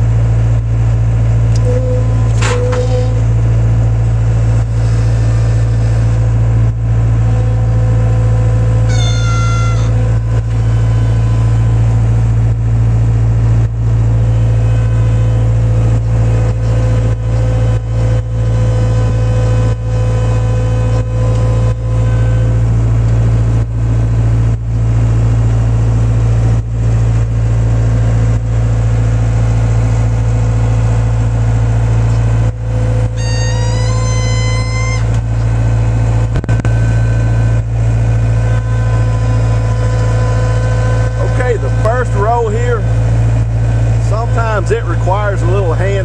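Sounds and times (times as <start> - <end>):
loader engine running: 0.0 - 46.0.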